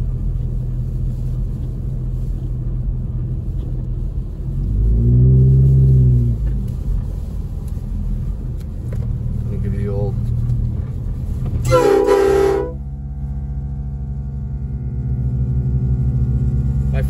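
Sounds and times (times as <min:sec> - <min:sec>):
car driving on wet road: 0:00.0 - 0:17.0
passing vehicle hum: 0:00.0 - 0:17.0.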